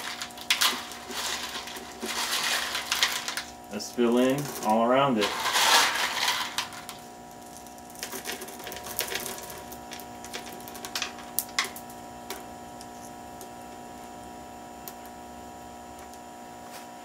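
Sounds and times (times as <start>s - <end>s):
clay pebbles clicking into plastic pot: 0.0s - 13.8s
steady hum: 0.0s - 17.0s.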